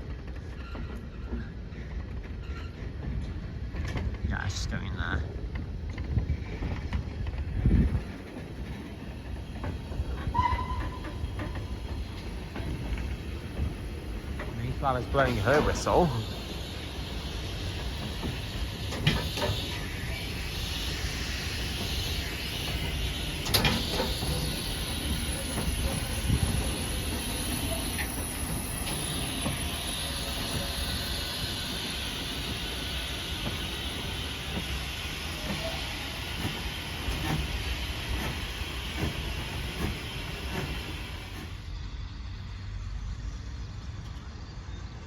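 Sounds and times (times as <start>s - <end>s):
steam locomotive hissing: 6.0s - 44.0s.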